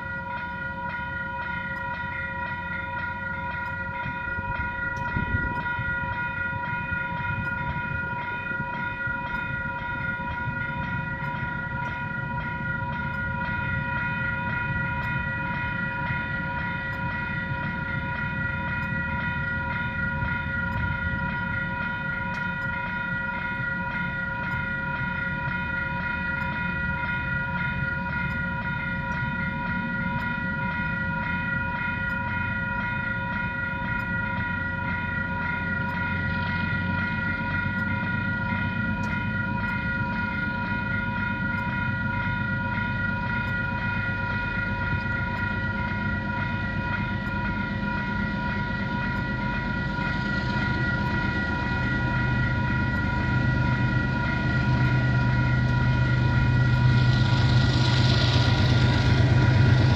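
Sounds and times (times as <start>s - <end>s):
crossing warning bells ringing: 0.0s - 59.9s.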